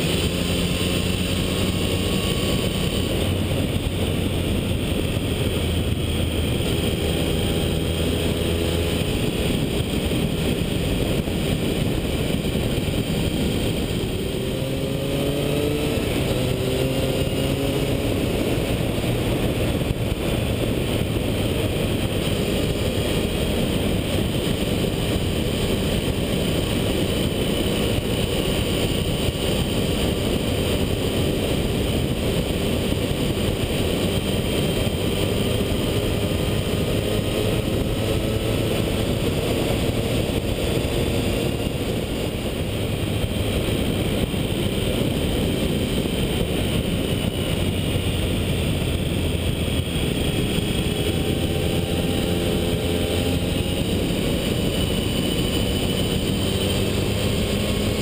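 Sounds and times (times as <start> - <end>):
motorcycle engine running: 0.0 - 58.0
rushing wind noise: 0.0 - 58.0.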